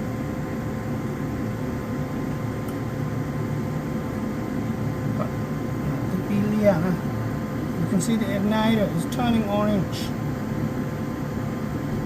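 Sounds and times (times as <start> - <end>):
furnace fan motor humming: 0.0 - 12.0.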